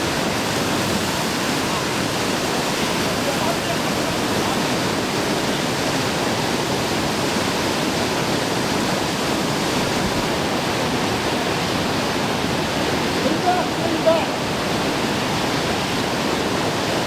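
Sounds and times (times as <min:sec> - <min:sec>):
white water roaring: 0:00.0 - 0:17.0.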